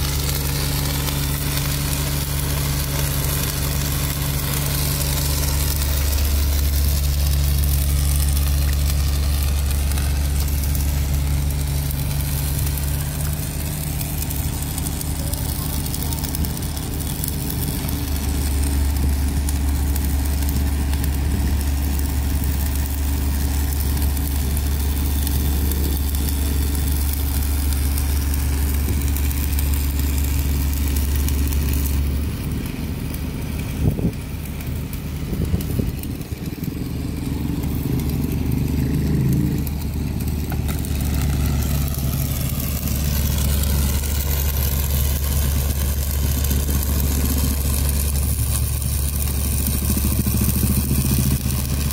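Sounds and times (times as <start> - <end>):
diesel engine low drone: 0.0 - 51.9.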